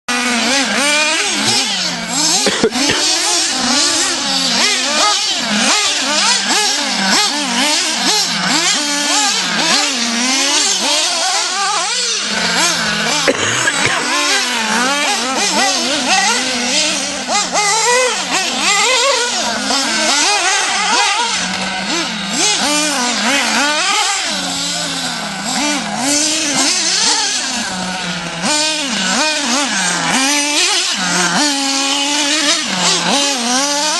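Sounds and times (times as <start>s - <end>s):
toy car motor whining: 0.1s - 33.9s.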